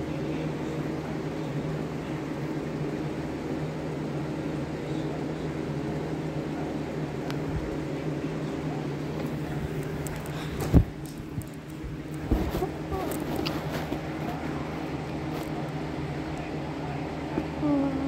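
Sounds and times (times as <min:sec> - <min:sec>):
electric fan whirring: 0:00.0 - 0:18.0.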